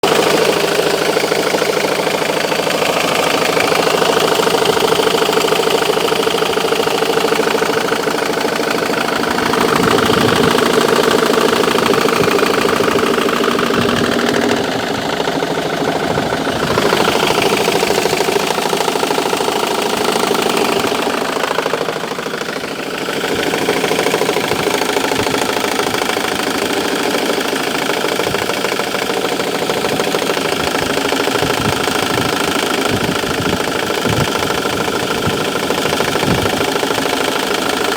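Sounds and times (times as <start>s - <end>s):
diesel engine knocking: 0.0s - 37.9s.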